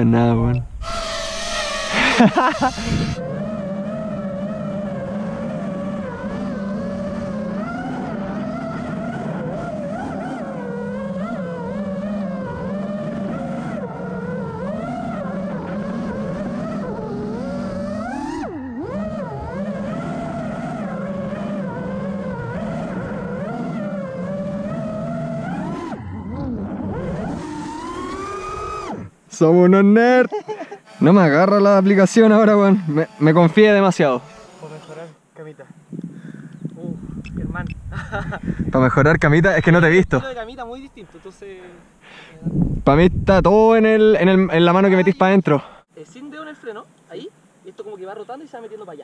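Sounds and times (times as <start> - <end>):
quadcopter motors buzzing: 0.0 - 29.2, 29.8 - 45.4.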